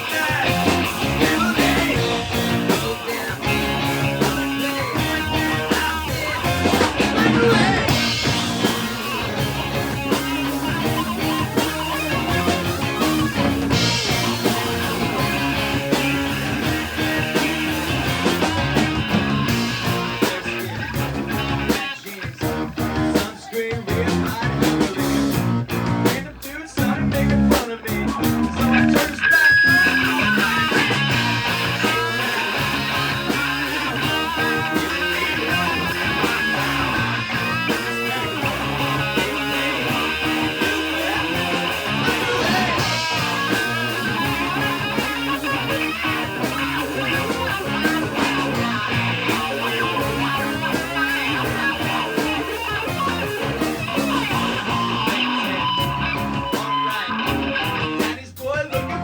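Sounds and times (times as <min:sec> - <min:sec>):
electric guitar: 0:00.0 - 0:59.0
rock band playing live: 0:00.0 - 0:59.0.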